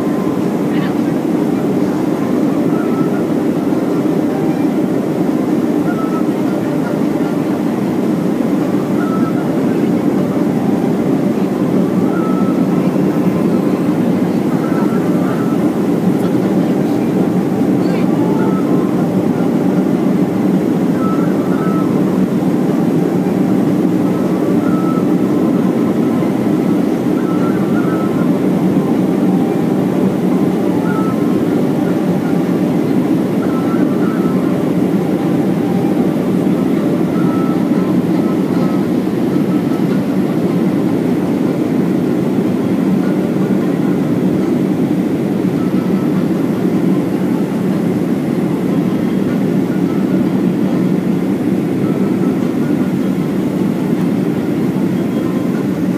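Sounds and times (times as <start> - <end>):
airliner cabin engine rush: 0.0 - 55.9.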